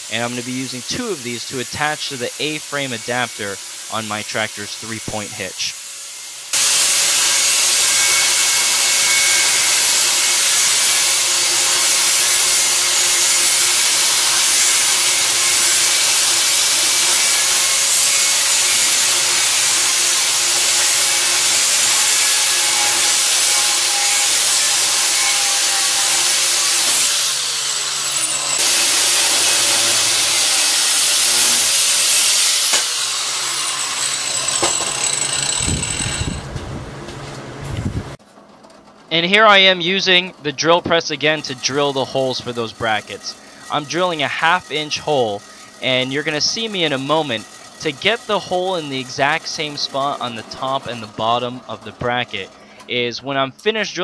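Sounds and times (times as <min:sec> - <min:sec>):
angle grinder cutting steel: 0:00.0 - 0:37.5, 0:40.7 - 0:53.0.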